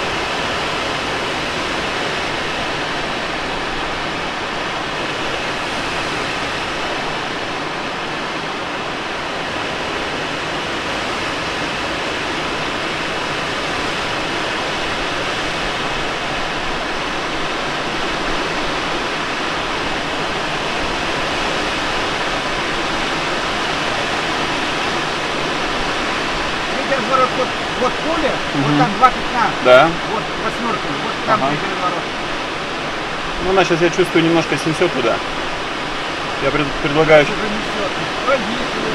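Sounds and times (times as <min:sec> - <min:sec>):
airflow rushing over glider: 0:00.0 - 0:38.9.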